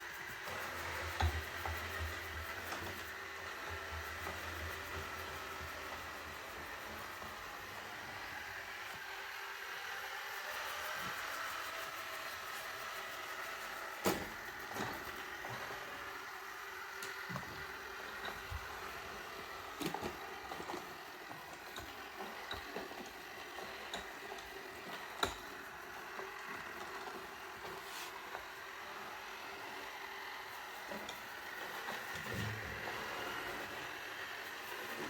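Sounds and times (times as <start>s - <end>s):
robot vacuum motor and brush hum: 0.0s - 35.0s.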